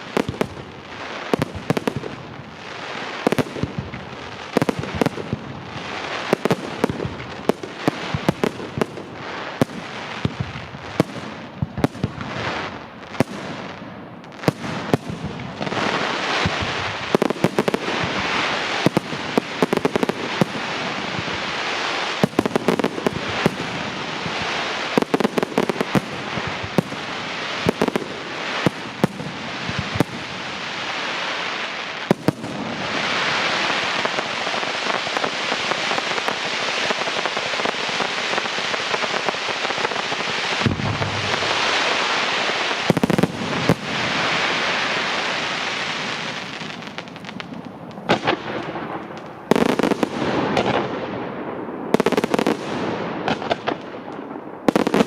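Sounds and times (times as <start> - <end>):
dense firework crackling: 0.0 - 55.0.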